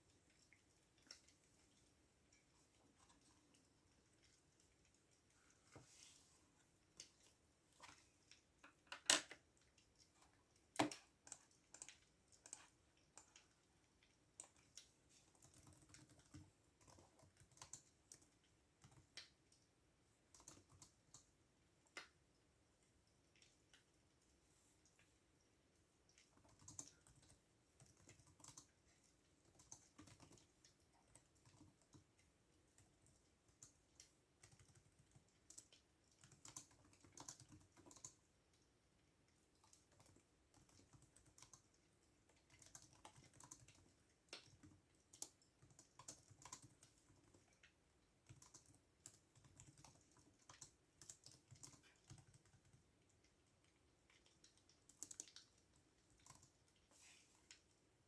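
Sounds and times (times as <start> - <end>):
soft keyboard typing: 0.0 - 58.0.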